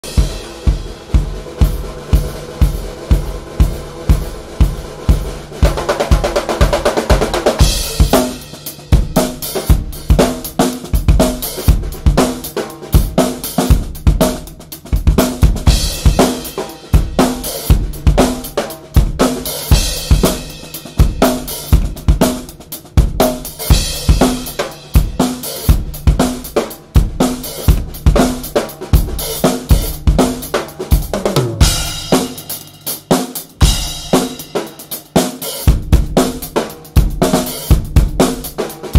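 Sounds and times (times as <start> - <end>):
drum kit funk groove: 0.0 - 38.9.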